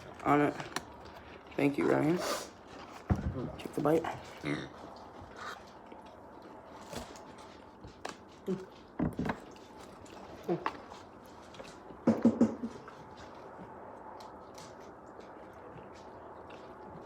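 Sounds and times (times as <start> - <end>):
crunchy chewing: 0.0 - 12.1, 12.7 - 17.0.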